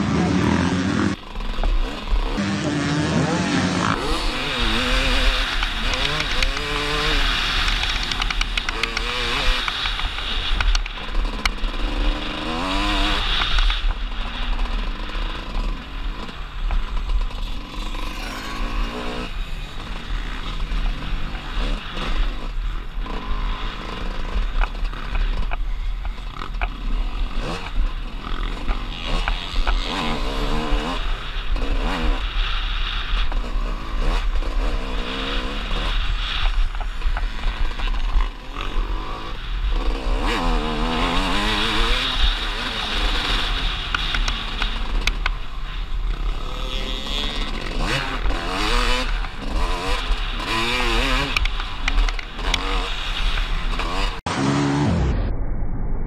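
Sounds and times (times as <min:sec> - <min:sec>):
dirt bike engine revving: 0:00.0 - 0:55.3.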